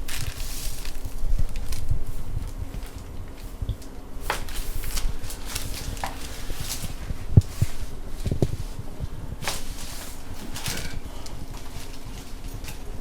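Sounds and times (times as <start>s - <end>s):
rustling on a treatment table: 0.0s - 13.0s.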